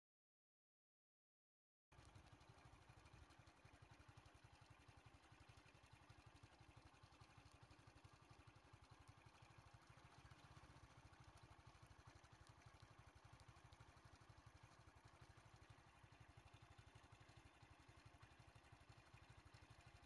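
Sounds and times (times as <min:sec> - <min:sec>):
engine idling: 0:01.9 - 0:20.0.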